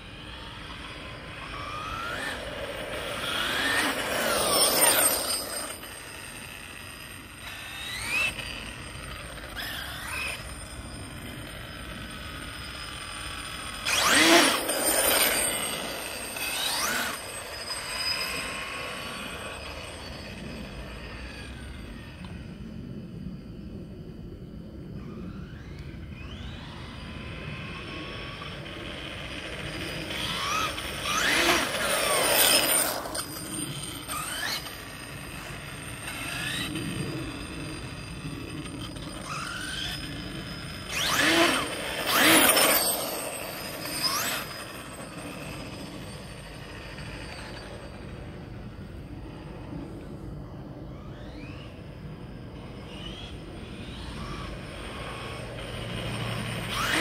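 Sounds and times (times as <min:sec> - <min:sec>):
tyre noise on asphalt: 0:00.0 - 0:22.1, 0:25.5 - 0:49.0
electric motor whining: 0:00.0 - 0:22.5, 0:25.0 - 0:57.0.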